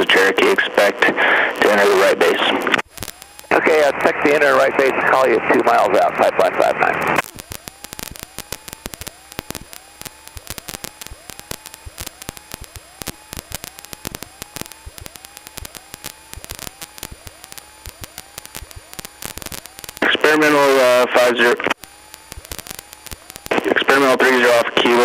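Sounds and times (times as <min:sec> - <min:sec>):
radio static crackling: 0:00.0 - 0:25.0.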